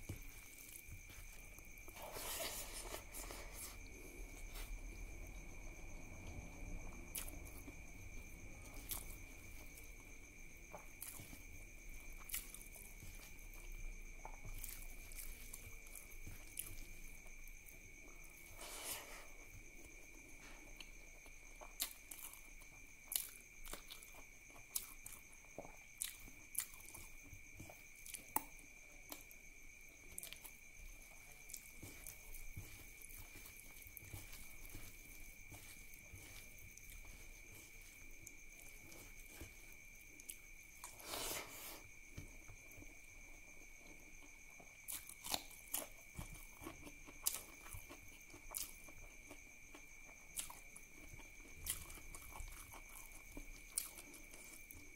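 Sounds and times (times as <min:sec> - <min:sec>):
person chewing with wet clicks: 0:07.1 - 0:18.4, 0:19.4 - 0:41.0, 0:43.8 - 0:54.9.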